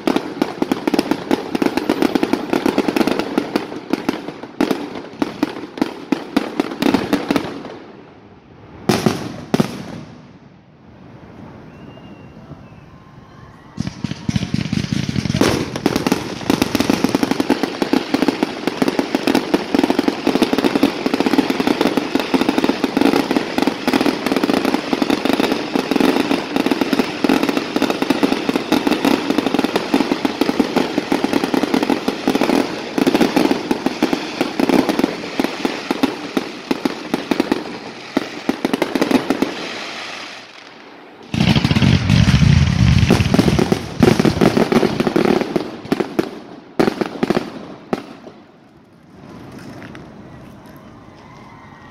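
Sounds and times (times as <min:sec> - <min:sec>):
fireworks banging: 0:00.0 - 0:10.5, 0:13.7 - 0:50.2.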